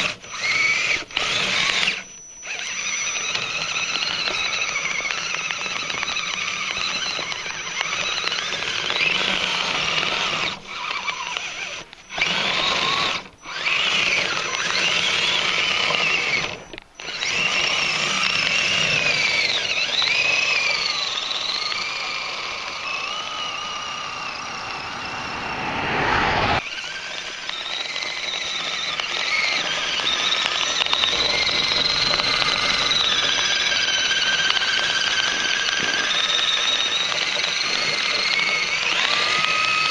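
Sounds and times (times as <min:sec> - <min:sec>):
electric motor and gearbox whining: 0:00.0 - 0:39.9.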